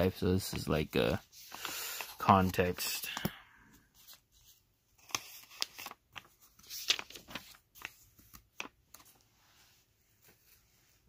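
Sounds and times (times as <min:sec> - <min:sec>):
book pages turning: 0:00.3 - 0:09.3.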